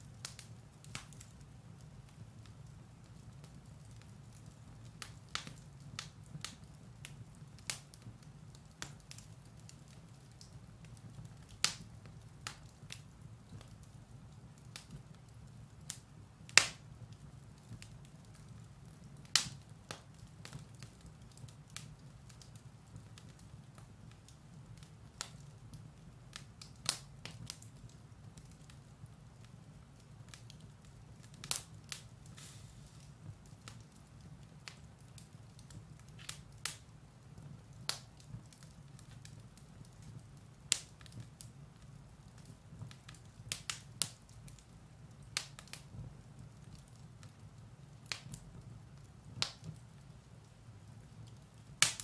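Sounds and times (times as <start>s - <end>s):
firewood crackling and popping: 0.0s - 52.0s.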